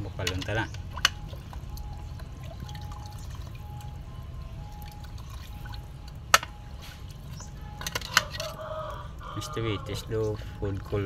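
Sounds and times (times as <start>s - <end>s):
broth splashing and trickling: 0.0s - 11.0s.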